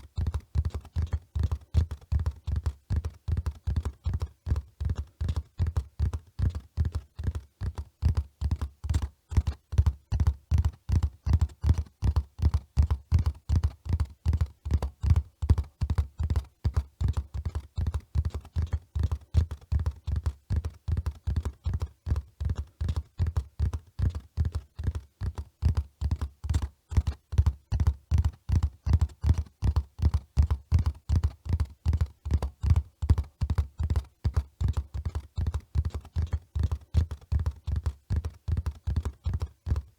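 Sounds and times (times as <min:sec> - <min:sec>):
horse hoofbeats: 0:00.0 - 0:39.9.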